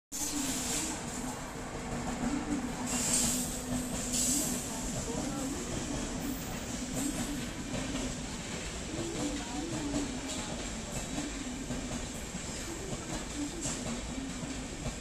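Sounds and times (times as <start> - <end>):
train rumbling past: 0.2 - 15.0.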